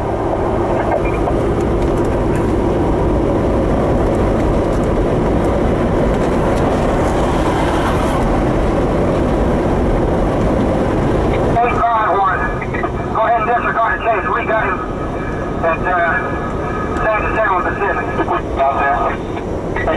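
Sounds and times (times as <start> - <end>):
car engine rumble: 0.0 - 19.9
tyre road noise: 0.0 - 19.9.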